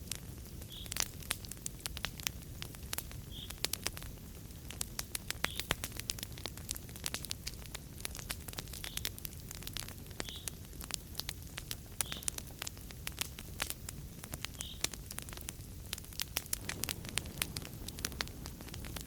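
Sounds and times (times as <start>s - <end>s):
fireplace fire crackling: 0.0s - 19.0s
soft hisses of fire: 0.0s - 19.0s.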